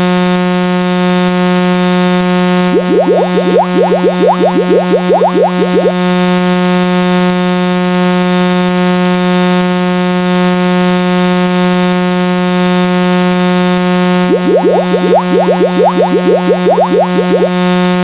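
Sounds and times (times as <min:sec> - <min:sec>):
low harsh buzzer tone: 0:00.0 - 0:18.0.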